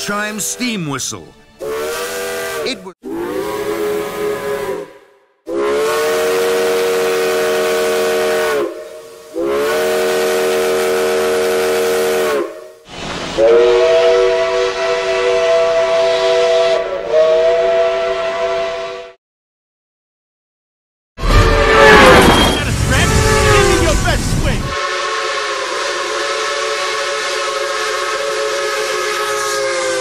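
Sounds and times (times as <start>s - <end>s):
steam locomotive whistle: 1.6s - 19.2s, 21.2s - 30.0s.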